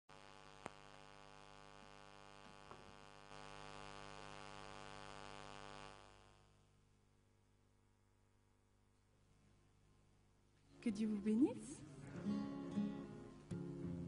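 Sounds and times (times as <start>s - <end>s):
faint electrical mains hum: 0.1s - 14.0s.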